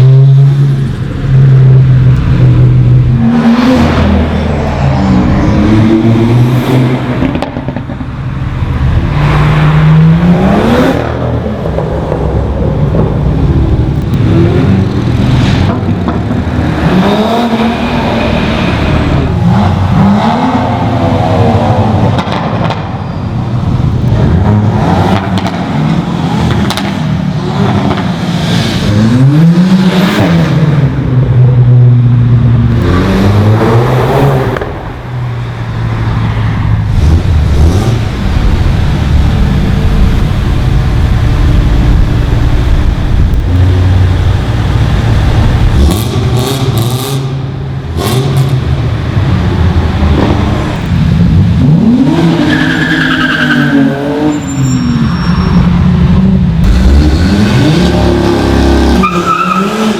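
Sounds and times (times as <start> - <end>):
engines revving through gear changes: 0.0 - 22.8, 23.8 - 54.3, 55.6 - 59.9
cars passing at speed: 0.0 - 59.9.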